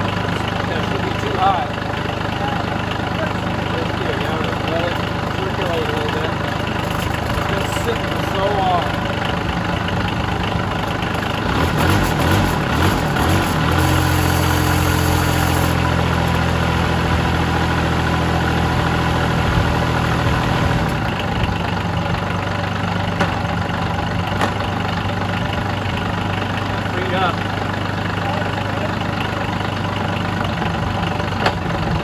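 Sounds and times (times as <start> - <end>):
small diesel engine idling: 0.0 - 32.0.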